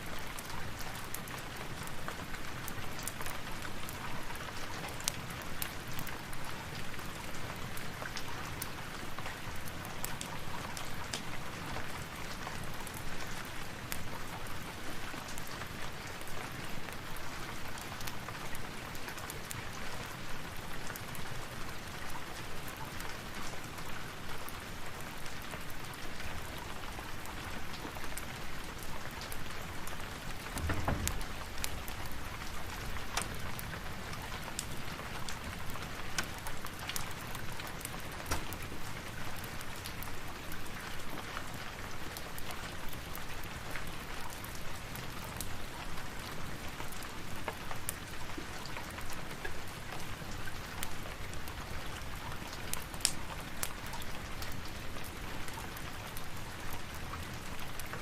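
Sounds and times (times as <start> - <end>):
rain falling: 0.0 - 58.0
sharp crackles or drips: 0.0 - 58.0.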